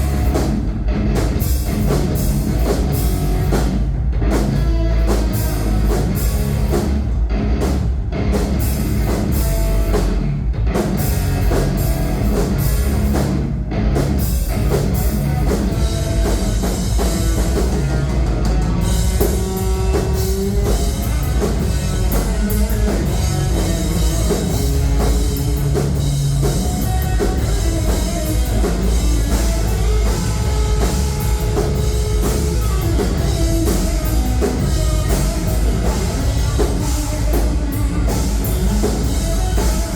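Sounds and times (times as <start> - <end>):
bass guitar: 0.0 - 39.9
drum kit: 0.0 - 39.9
electric guitars: 0.0 - 39.9
heavy rock band playing: 0.0 - 39.9.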